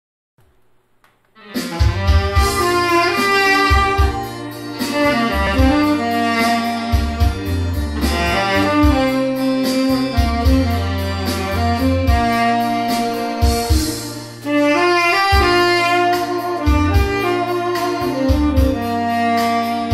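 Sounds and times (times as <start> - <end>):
backing track with beat and bass: 1.2 - 19.9
tenor saxophone melody: 1.4 - 19.9.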